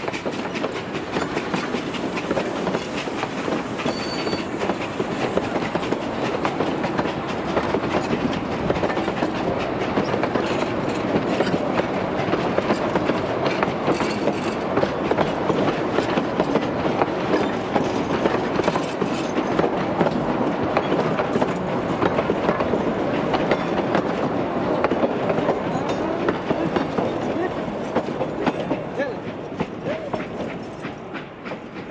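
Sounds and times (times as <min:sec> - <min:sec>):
train wheels clicking on rails: 0:00.0 - 0:31.9.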